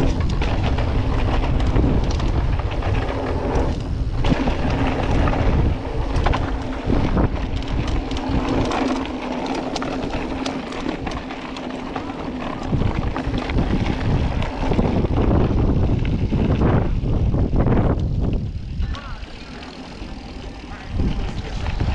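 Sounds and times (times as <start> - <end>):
bike rattling and knocking: 0.0 - 21.9
tyres rolling over loose ground: 0.0 - 21.9
wind buffeting microphone: 0.0 - 21.9.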